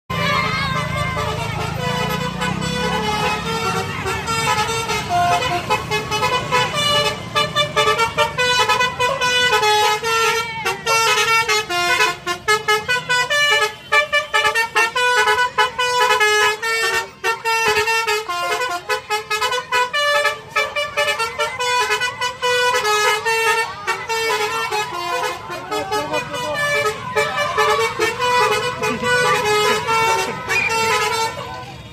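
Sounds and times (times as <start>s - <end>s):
bus horn playing a tune: 0.1s - 31.9s
low engine rumble: 0.1s - 31.9s.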